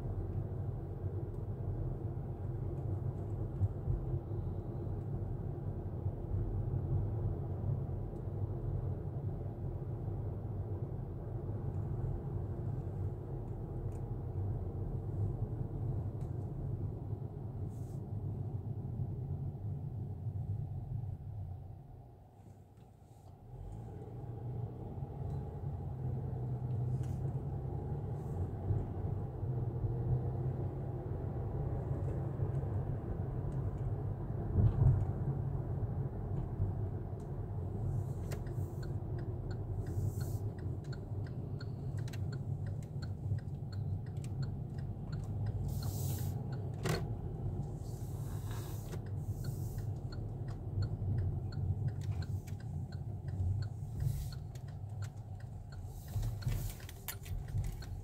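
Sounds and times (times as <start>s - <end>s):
car engine and tyre rumble: 0.0s - 58.0s
turn signal ticking: 4.9s - 17.6s, 22.8s - 58.0s.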